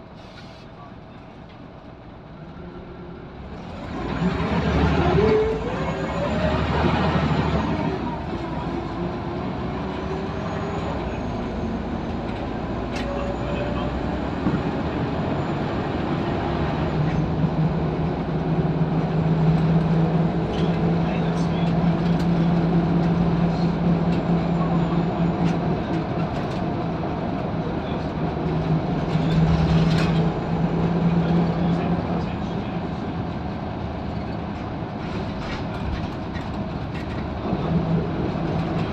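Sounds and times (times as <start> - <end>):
bus engine whine: 0.0 - 38.9
road rumble: 0.0 - 38.9.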